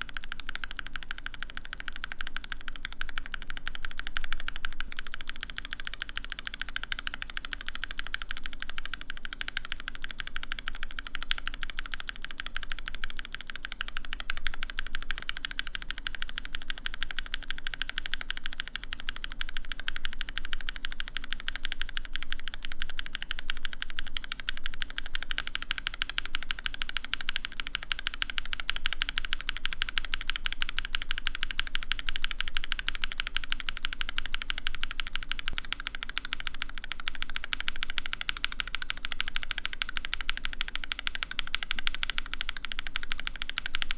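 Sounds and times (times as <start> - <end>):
mechanical keyboard typing: 0.0 - 43.9.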